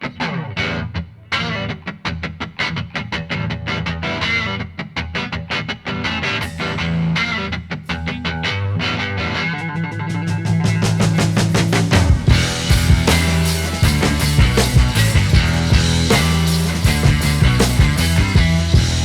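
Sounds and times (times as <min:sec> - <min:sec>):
plucked guitar music: 0:00.0 - 0:19.0.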